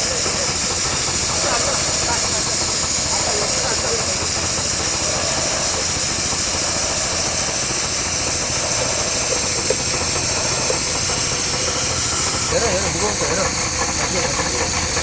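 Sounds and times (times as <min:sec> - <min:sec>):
constant hiss of air: 0:00.0 - 0:15.0
engine-driven machine running: 0:00.0 - 0:15.0.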